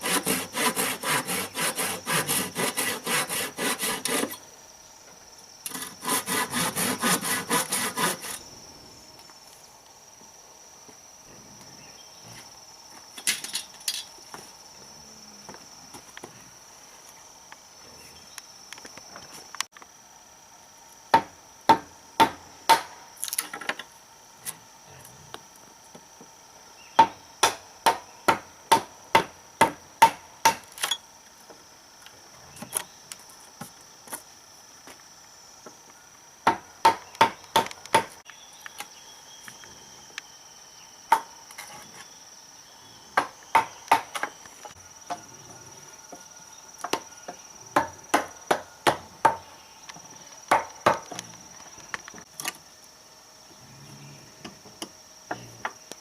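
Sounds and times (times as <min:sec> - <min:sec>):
high insect buzz: 0:00.0 - 0:56.0.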